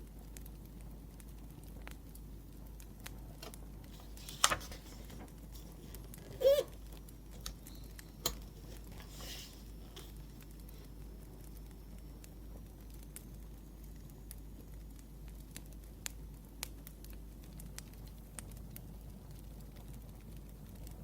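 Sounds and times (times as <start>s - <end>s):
wood fire crackling: 0.0s - 21.0s
fire popping: 0.1s - 21.0s.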